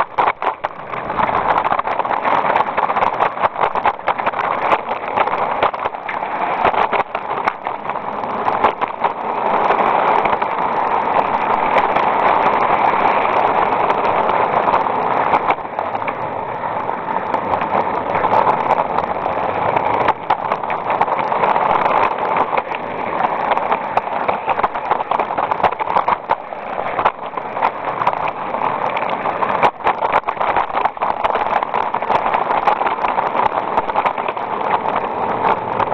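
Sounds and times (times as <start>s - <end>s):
running gear clicks: 0.0s - 35.9s.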